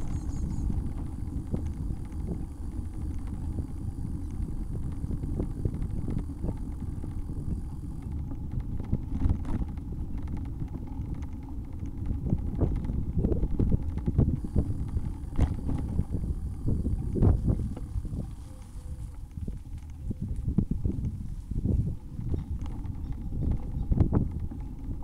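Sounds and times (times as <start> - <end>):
bicycle rumble: 0.0 - 25.0
wind buffeting microphone: 0.0 - 25.0.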